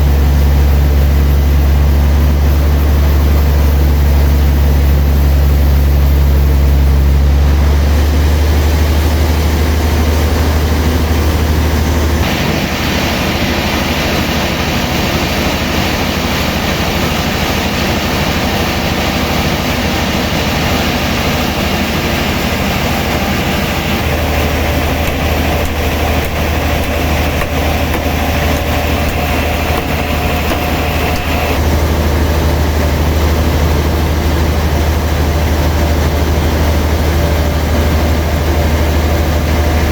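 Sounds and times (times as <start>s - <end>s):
high machine whine: 0.0s - 39.9s
sawmill machinery humming: 0.0s - 39.9s.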